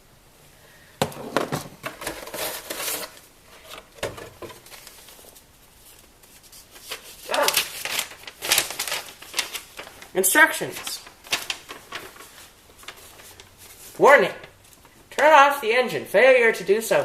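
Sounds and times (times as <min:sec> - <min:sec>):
cardboard and paper rustling: 0:01.2 - 0:15.2.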